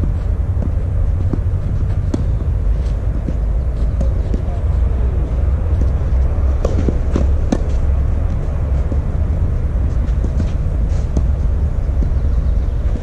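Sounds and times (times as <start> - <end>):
tennis ball hitting rackets: 0.0 - 12.2
steady low rumble: 0.0 - 13.0.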